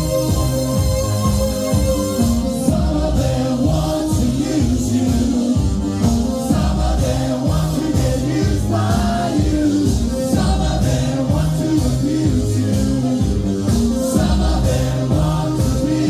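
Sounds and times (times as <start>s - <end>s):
live band playing: 0.0s - 16.0s
voices singing together: 2.5s - 16.0s.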